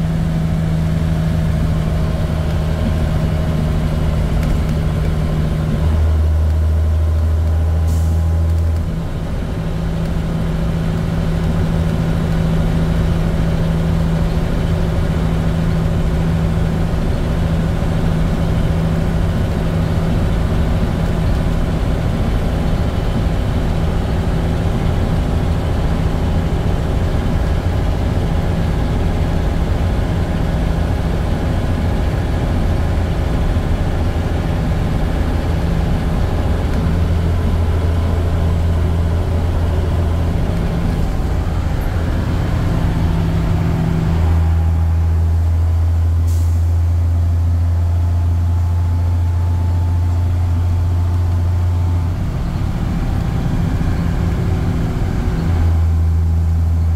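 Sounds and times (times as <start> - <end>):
bus diesel engine drone: 0.0 - 56.9.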